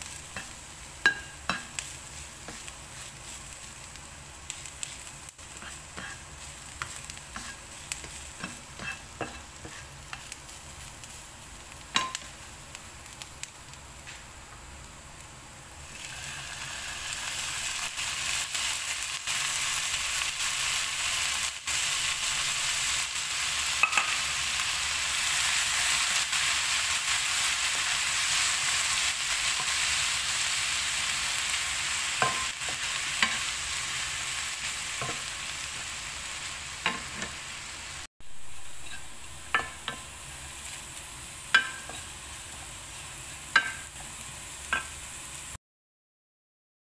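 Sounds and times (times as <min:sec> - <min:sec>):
food sizzling in a frying pan: 0:00.0 - 0:45.6.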